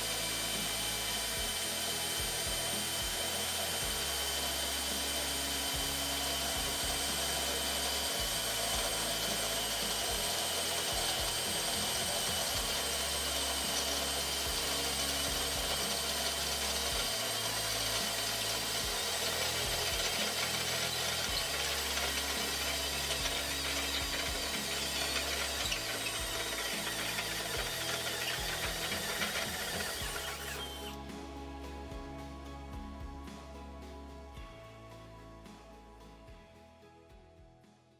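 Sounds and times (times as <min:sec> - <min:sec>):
cordless drill whirring: 0:00.0 - 0:31.1
music: 0:00.0 - 0:37.9.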